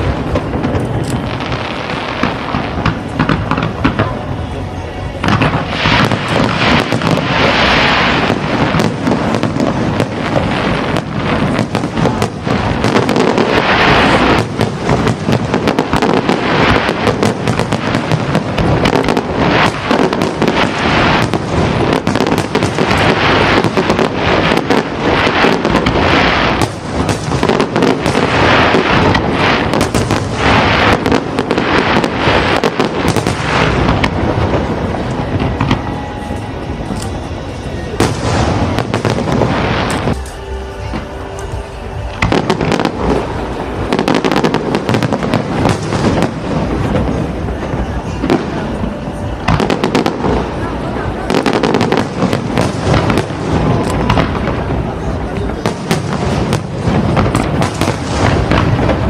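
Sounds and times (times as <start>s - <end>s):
fireworks bangs and crackling: 0.0s - 59.0s
music playing: 1.0s - 59.0s.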